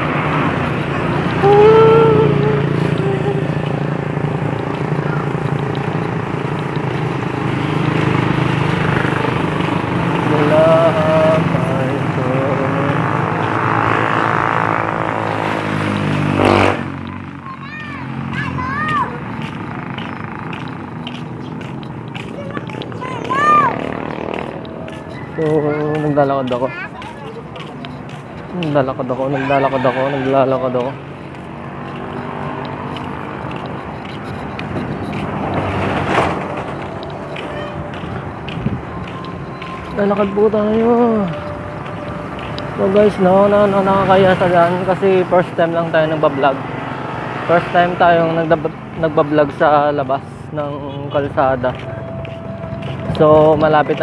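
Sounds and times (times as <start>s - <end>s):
vehicle engine passing: 0.0s - 54.0s.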